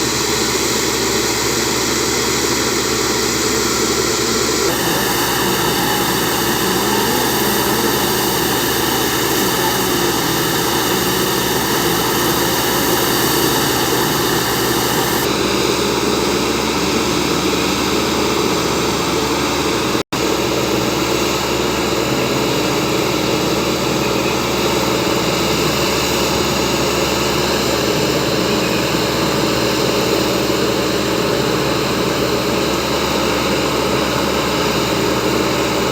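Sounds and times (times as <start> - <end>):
diesel engine and hydraulics running: 0.0 - 35.9.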